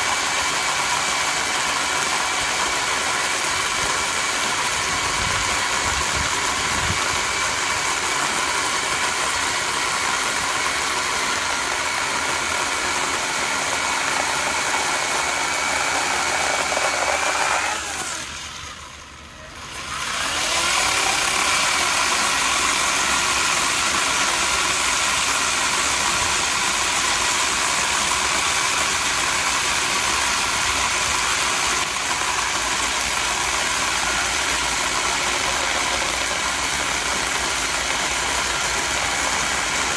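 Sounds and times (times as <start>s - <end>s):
electric chainsaw motor whining: 0.0s - 39.9s.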